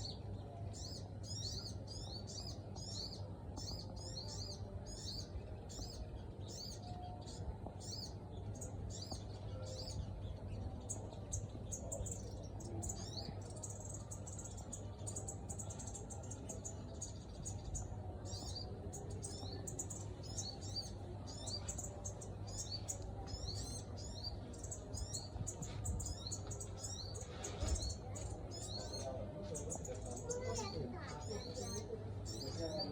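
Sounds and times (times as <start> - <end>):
birds chirping and twittering: 0.0 - 32.9.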